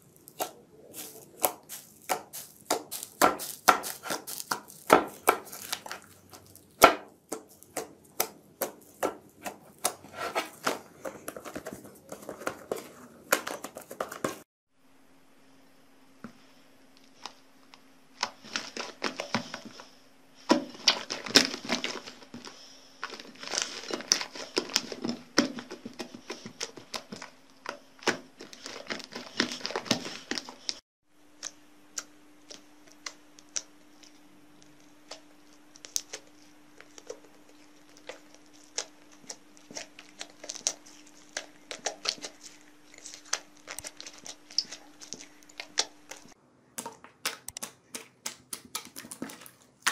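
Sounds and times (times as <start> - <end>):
slime squishing and crackling: 0.0 - 14.4, 20.5 - 30.8, 32.5 - 49.9.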